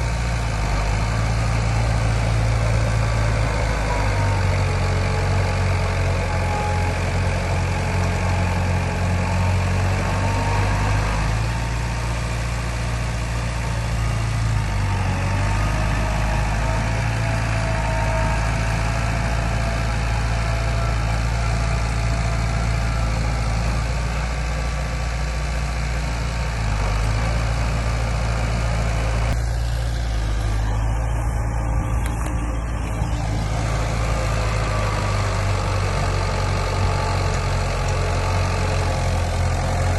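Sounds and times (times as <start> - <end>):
diesel engine running at low revs: 0.0 - 39.9.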